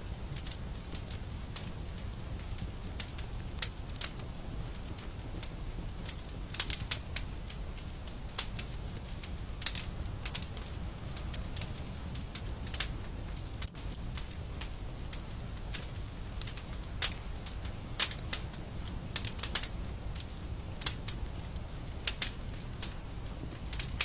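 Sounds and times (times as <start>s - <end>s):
fire crackling in a fireplace: 0.0s - 24.0s.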